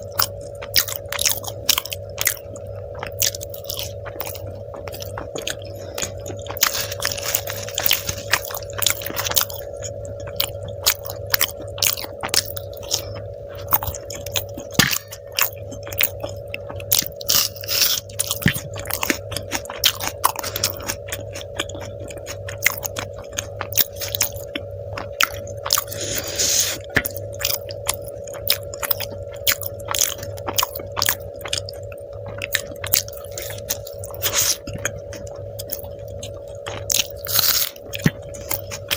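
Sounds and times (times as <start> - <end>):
person chewing and biting: 0.0 - 38.9
steady hum: 0.0 - 38.9.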